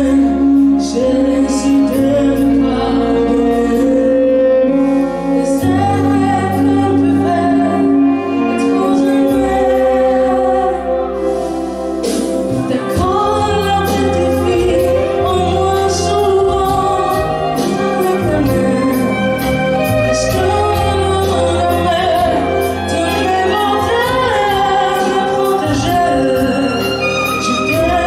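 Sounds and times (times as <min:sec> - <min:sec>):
held bass notes: 0:00.0 - 0:28.0
violin: 0:00.0 - 0:28.0
woman singing into microphone: 0:00.0 - 0:28.0.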